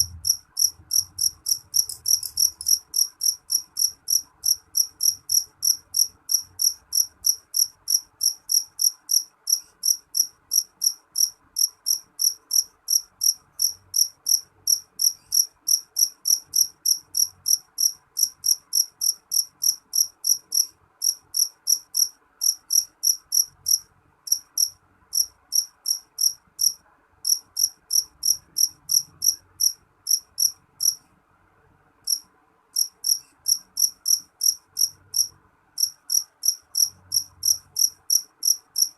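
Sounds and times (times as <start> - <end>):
cricket chirping: 0.0 - 31.0, 32.8 - 38.9.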